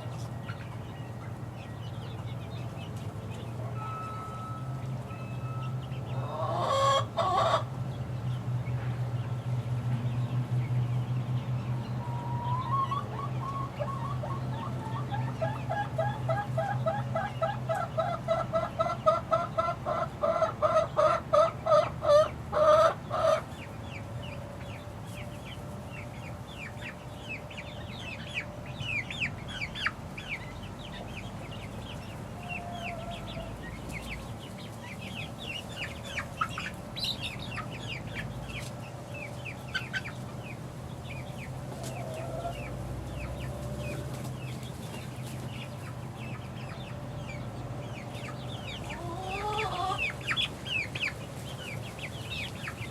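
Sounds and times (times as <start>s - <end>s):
chicks peeping: 0.0s - 52.9s.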